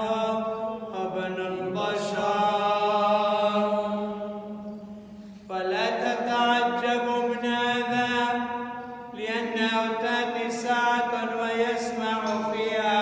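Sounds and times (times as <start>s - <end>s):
man chanting: 0.0s - 4.2s, 5.5s - 13.0s.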